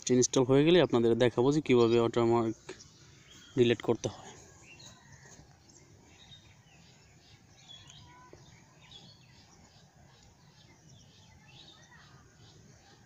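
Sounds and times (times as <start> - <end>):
faint birds chirping: 0.0 - 13.0
low background noise: 0.0 - 13.0.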